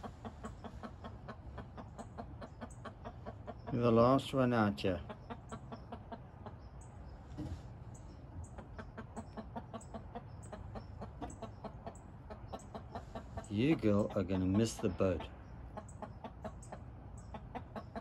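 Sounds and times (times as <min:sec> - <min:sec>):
hen clucking: 0:00.0 - 0:18.0.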